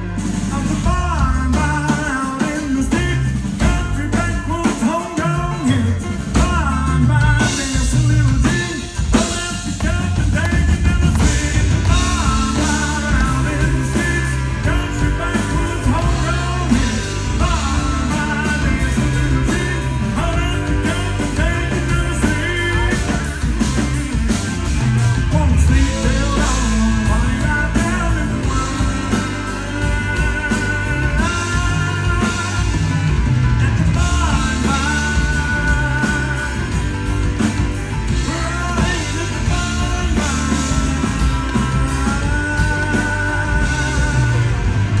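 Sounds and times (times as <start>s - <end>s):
country rock band playing: 0.0s - 45.0s
man singing: 0.0s - 45.0s.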